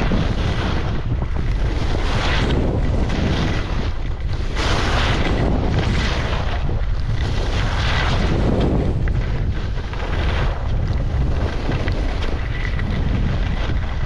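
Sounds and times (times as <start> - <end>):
skis carving through snow: 0.0 - 14.0
wind buffeting microphone: 0.0 - 14.0.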